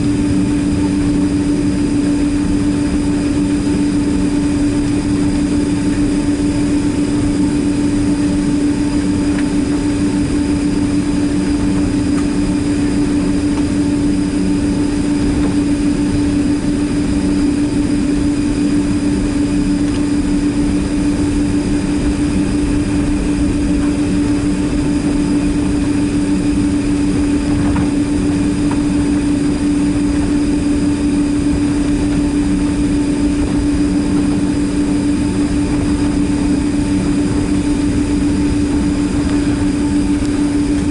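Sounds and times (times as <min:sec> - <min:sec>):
jet cabin hum and drone: 0:00.0 - 0:40.9
rushing background noise: 0:00.0 - 0:40.9.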